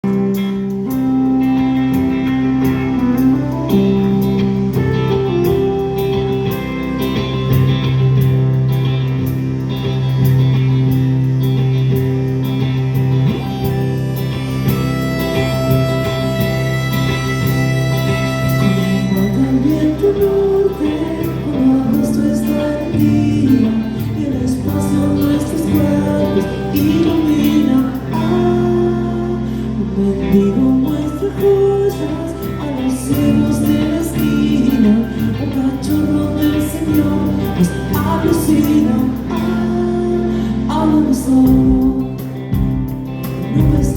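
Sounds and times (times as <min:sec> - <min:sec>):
guitar held notes: 0:00.0 - 0:43.9
rock band playing: 0:00.0 - 0:43.9.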